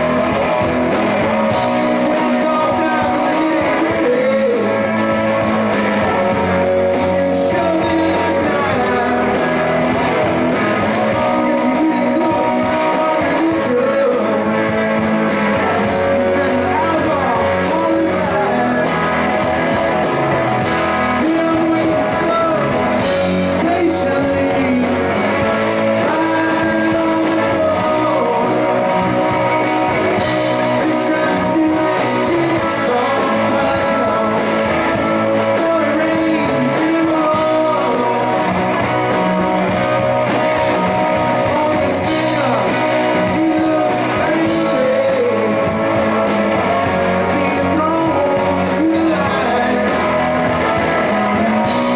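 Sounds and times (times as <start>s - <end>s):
man singing: 0.0s - 51.9s
rock band guitars playing: 0.0s - 51.9s.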